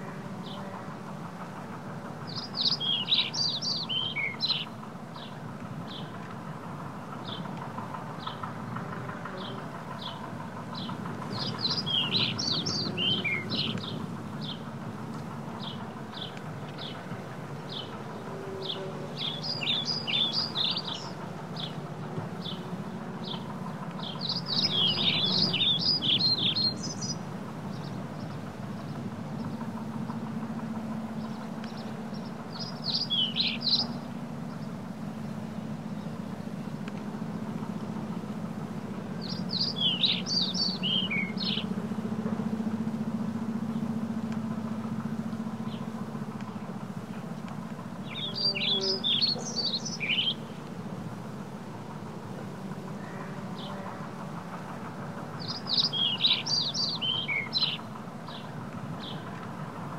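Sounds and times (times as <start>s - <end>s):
birds chirping: 0.0s - 1.0s, 2.1s - 59.7s
low hum: 0.0s - 59.9s
steady low rumble: 0.0s - 59.9s.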